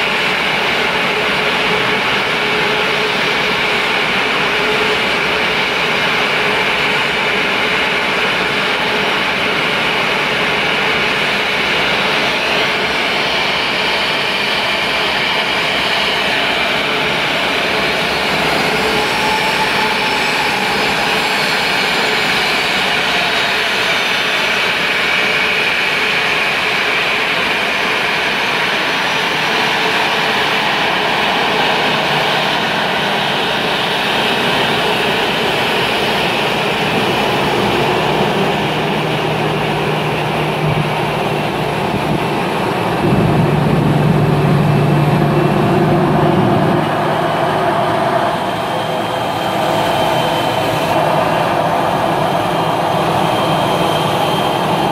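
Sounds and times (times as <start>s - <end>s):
jet engines whining at low thrust: 0.0s - 54.9s
fainter whine: 0.2s - 26.2s, 26.8s - 54.9s.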